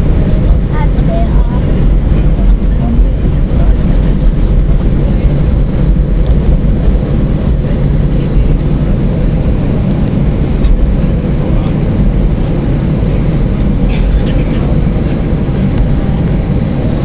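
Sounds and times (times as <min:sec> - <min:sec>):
airliner cabin rumble while taxiing: 0:00.0 - 0:17.0.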